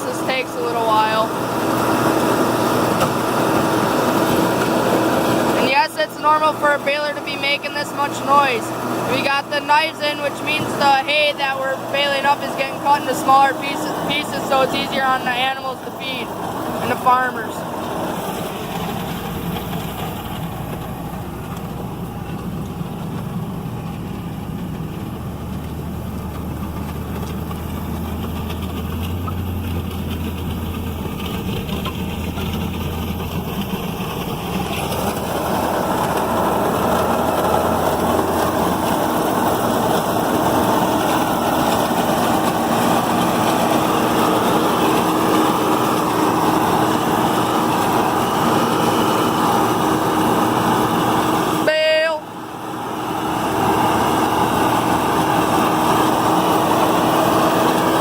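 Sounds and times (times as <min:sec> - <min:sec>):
round baler running: 0:00.0 - 0:58.0
tractor diesel engine under load: 0:00.0 - 0:58.0.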